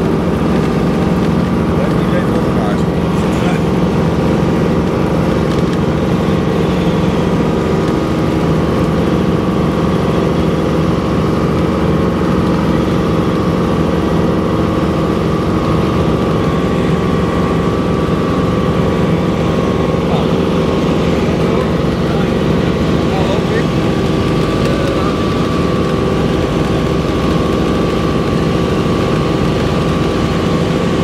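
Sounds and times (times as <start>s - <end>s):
helicopter engine and rotor drone: 0.0s - 31.0s.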